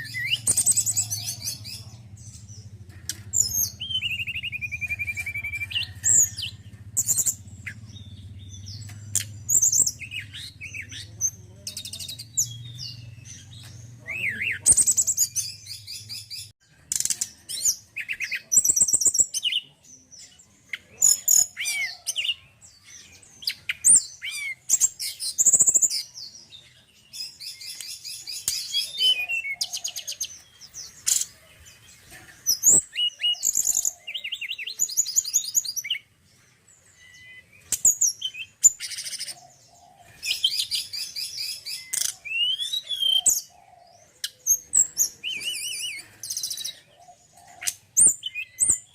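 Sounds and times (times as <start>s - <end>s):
bird singing chirps and trills: 0.0s - 48.9s.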